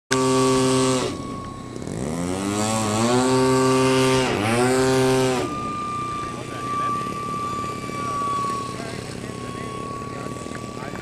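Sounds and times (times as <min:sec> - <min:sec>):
model aircraft engine running: 0:00.1 - 0:11.0.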